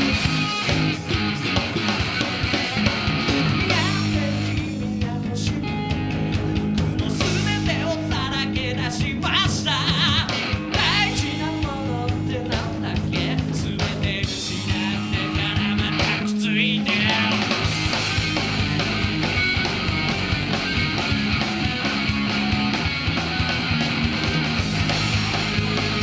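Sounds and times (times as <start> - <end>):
rock band playing live: 0.0 - 26.0
wavering guitar lead line: 0.0 - 26.0.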